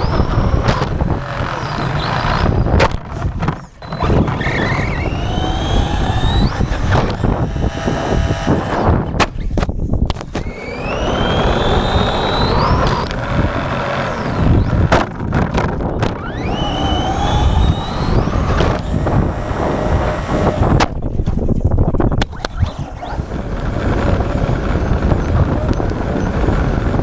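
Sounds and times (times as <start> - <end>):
electric motor whining: 0.0 - 27.0
tyres rumbling: 0.0 - 27.0
wind noise: 0.0 - 27.0.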